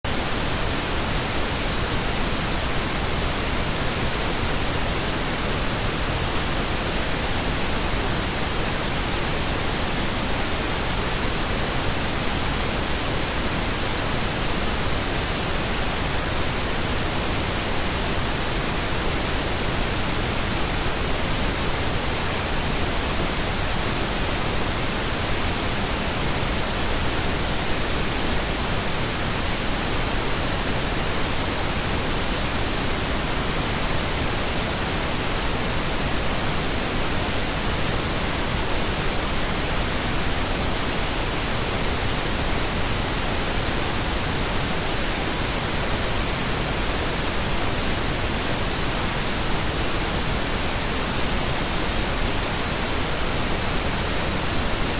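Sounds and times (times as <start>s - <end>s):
pink noise hiss: 0.1s - 54.9s.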